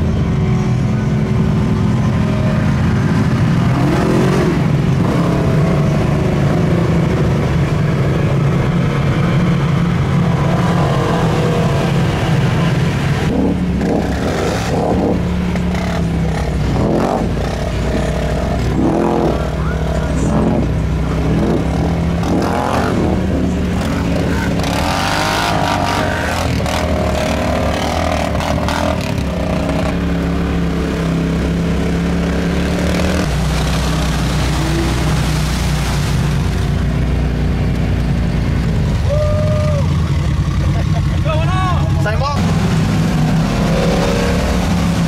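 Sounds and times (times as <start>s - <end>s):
off-road engines revving: 0.0s - 45.0s.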